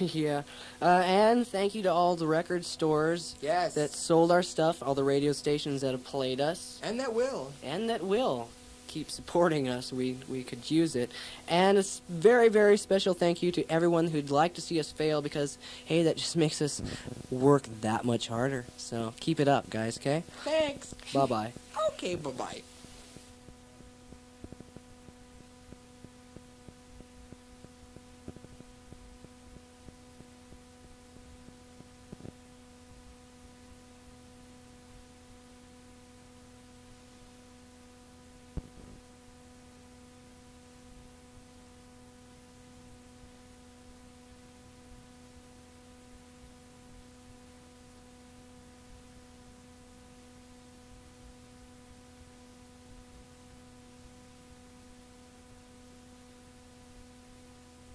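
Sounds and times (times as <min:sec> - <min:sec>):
electrical hum: 0:00.0 - 0:57.9
faint tape hiss: 0:00.0 - 0:57.9.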